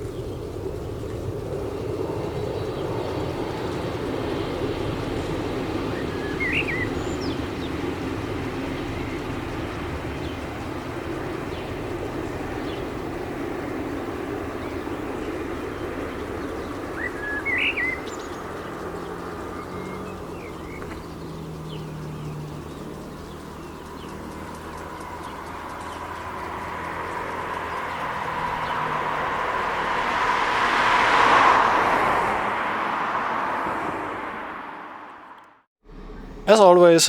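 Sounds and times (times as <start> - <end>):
birds chirping: 0.0 - 35.0, 36.0 - 37.0.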